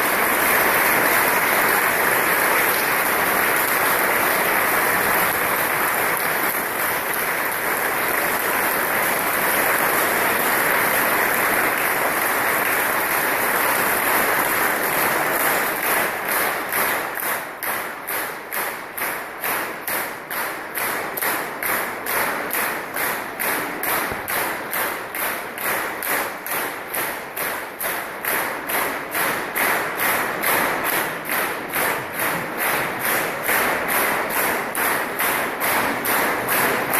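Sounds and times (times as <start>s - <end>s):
audience clapping in unison: 0.0s - 36.9s.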